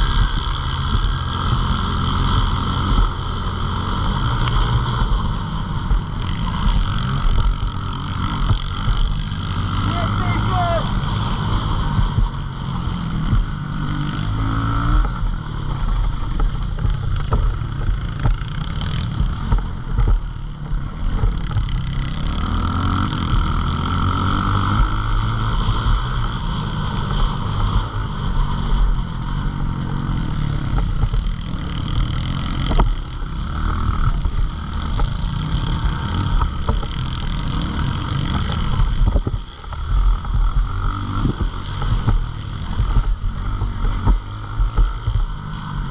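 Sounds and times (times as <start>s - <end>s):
motorbike engine revving: 0.0s - 45.9s.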